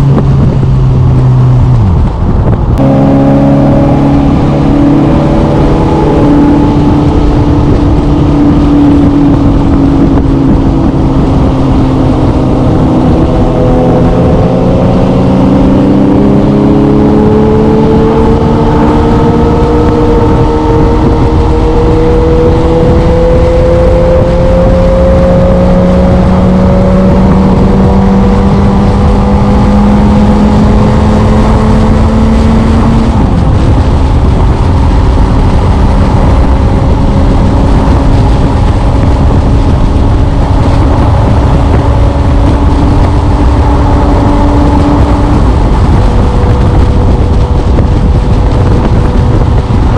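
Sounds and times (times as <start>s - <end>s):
motorcycle engine running: 0.0s - 49.9s
wind noise on microphone: 0.0s - 49.9s.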